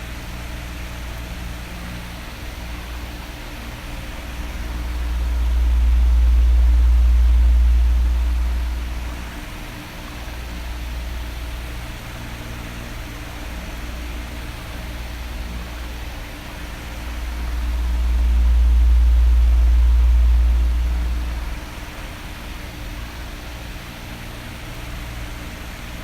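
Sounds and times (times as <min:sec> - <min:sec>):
faint motor hum: 0:00.0 - 0:26.0
oscillating fan air rush: 0:00.0 - 0:26.0.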